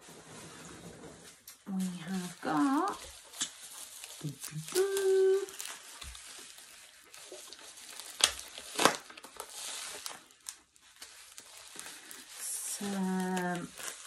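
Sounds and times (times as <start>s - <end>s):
bubble wrap crinkling: 0.0s - 14.0s
sharp plastic crackles: 1.3s - 14.0s.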